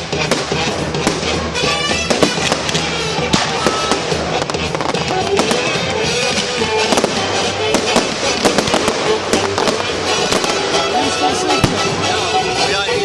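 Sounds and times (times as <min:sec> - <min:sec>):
fireworks bangs and crackles: 0:00.0 - 0:13.0
loud music: 0:00.0 - 0:13.0.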